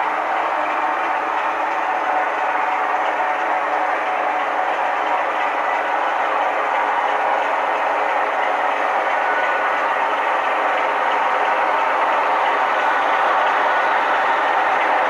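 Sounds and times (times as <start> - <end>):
model diesel engine sound: 0.0 - 15.0
model train wheels on track: 0.0 - 15.0.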